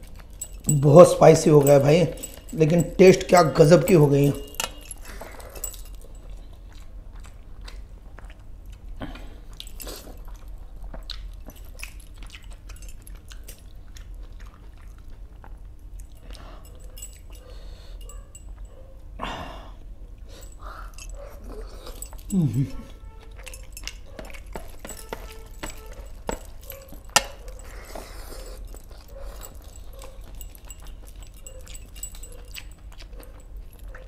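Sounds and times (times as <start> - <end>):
person chewing food: 0.0 - 19.1, 19.8 - 34.0.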